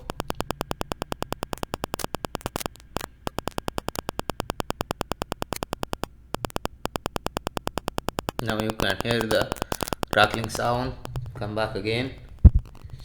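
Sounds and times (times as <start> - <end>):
microphone crackling clicks: 0.0 - 13.0.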